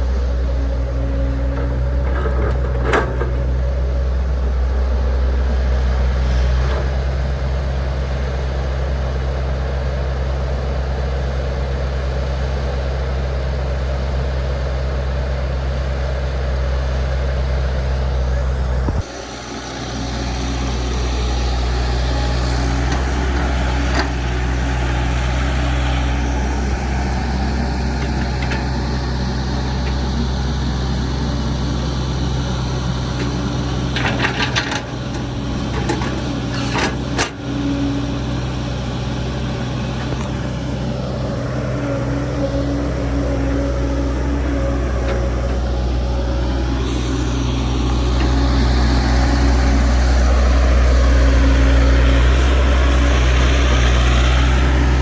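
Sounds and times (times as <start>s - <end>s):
diesel machinery engine humming: 0.0s - 55.0s.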